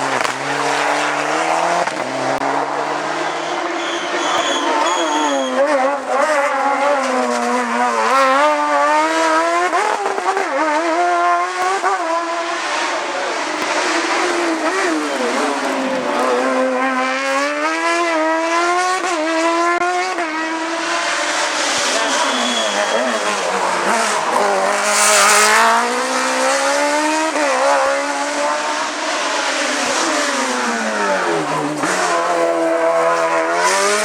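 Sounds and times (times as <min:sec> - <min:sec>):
race car engine revving: 0:00.0 - 0:34.0
throttle blips on downshifts: 0:00.0 - 0:34.0.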